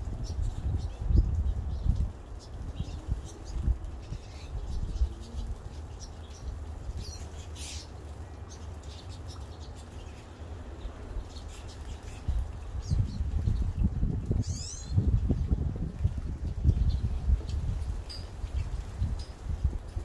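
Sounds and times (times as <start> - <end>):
small birds chirping: 0.0 - 20.0
wings fluttering and water splashing: 0.0 - 20.0.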